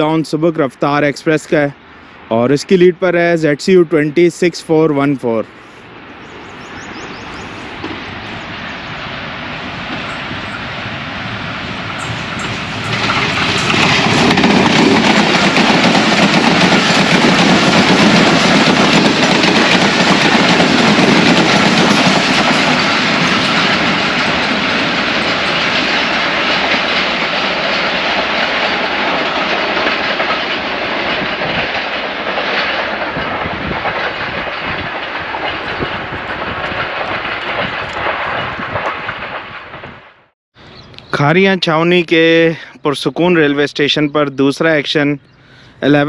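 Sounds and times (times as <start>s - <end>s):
train passing on rails: 0.0s - 46.0s.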